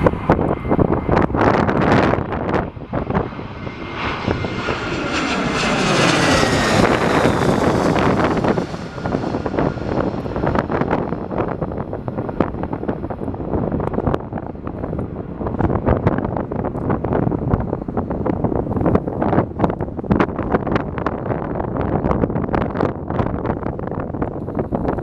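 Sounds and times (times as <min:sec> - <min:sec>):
gusting wind on microphone: 0:00.0 - 0:25.0
jet engines passing by: 0:00.0 - 0:25.0.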